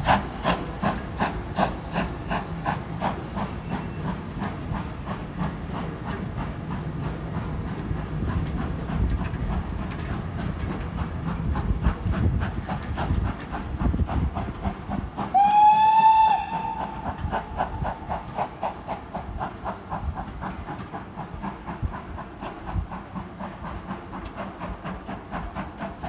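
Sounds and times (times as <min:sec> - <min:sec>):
train wheels clicking over rail joints: 0:00.0 - 0:26.0.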